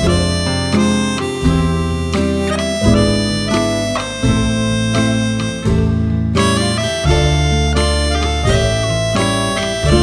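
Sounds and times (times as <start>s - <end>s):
guitar: 0.0s - 10.0s
harmonica melody: 0.0s - 10.0s.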